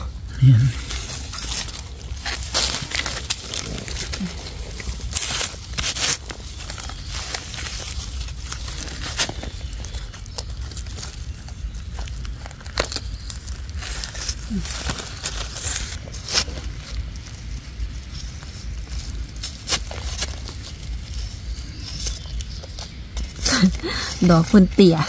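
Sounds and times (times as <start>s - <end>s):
dry leaves crackling and rustling: 0.0s - 25.0s
twigs snapping: 0.8s - 25.0s.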